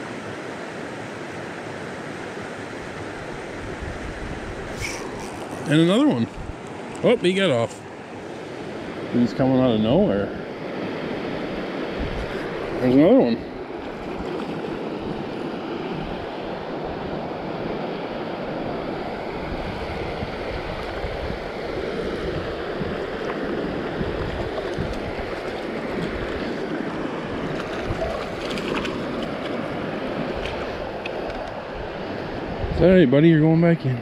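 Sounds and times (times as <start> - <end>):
stream water rushing: 0.0 - 34.0
wind rumbling on microphone: 2.7 - 7.0, 8.6 - 33.1.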